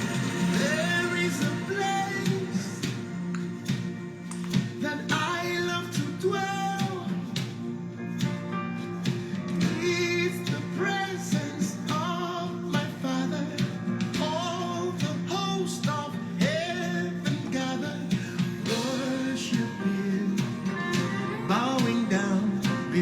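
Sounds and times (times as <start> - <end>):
song with singing and guitar: 0.0 - 23.0.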